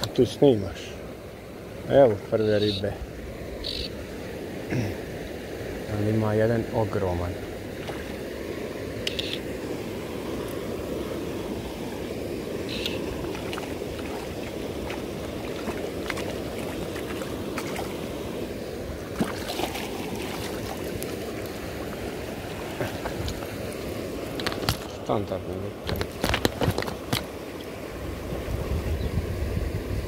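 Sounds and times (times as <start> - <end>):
shallow river current rushing: 0.0 - 30.0.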